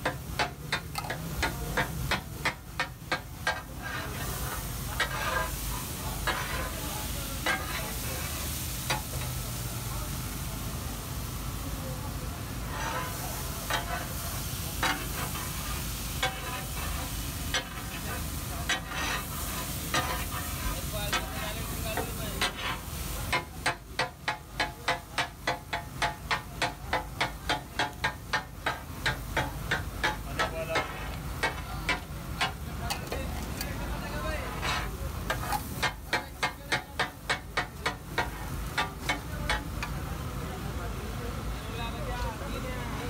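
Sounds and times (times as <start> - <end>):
metal spatulas clanging on griddle: 0.0 - 9.4, 12.7 - 40.0
food sizzling: 0.0 - 42.4.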